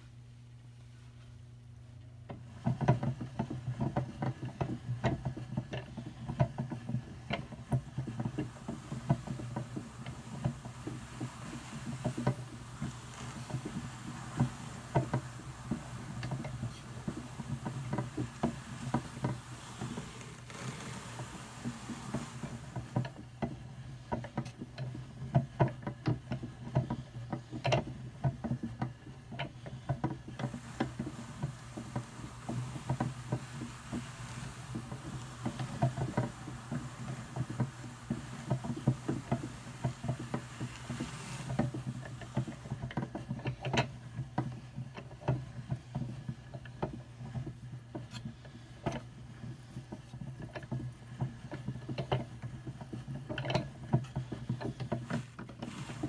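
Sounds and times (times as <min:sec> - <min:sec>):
hand-cranked drum carder turning: 0:02.0 - 0:56.0.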